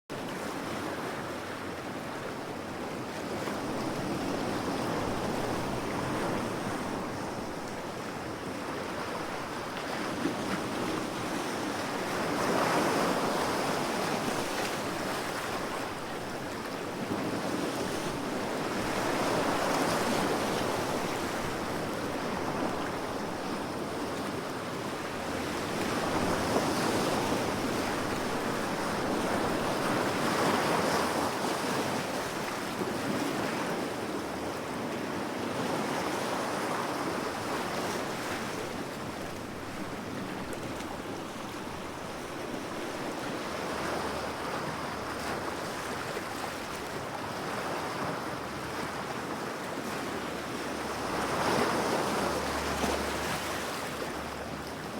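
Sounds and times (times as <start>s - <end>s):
ocean waves washing ashore: 0.1s - 54.9s.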